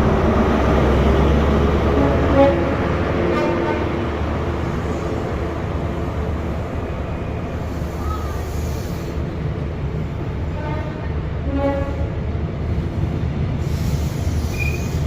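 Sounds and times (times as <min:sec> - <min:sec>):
diesel engine rumble: 0:00.0 - 0:15.0
train noise hiss: 0:02.0 - 0:15.0.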